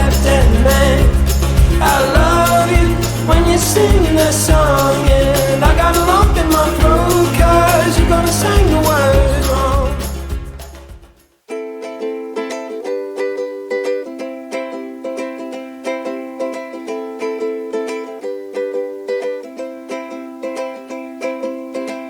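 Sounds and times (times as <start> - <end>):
ukulele strumming: 0.0 - 22.0.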